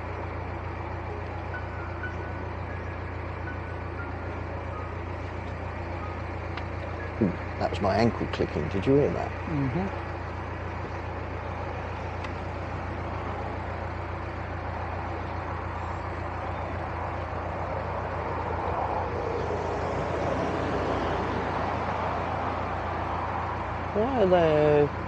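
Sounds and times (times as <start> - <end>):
boat diesel engine droning: 0.0 - 25.0.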